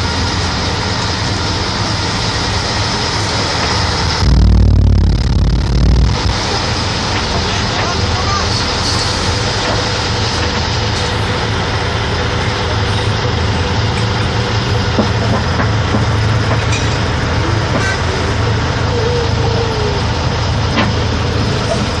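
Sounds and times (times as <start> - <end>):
diesel engine idling: 0.8 - 22.0.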